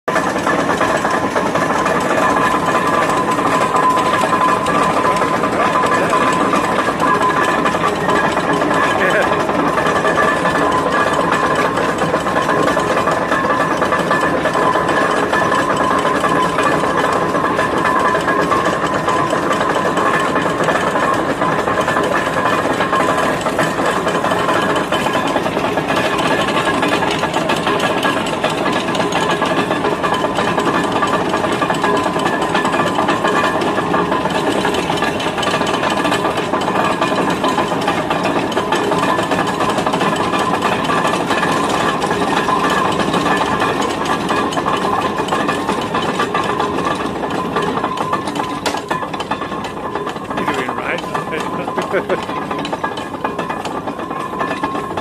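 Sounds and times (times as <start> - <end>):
steam engine winch running with rattling: 0.1 - 55.0.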